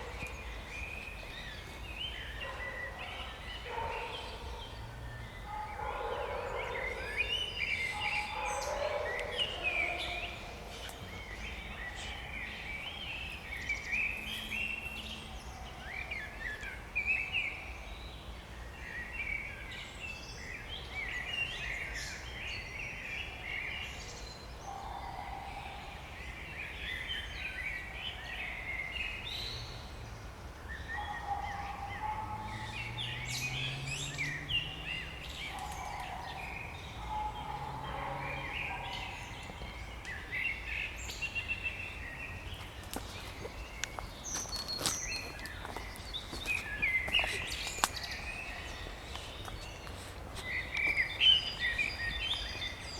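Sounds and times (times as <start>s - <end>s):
songbirds chirping and warbling: 0.0s - 52.9s.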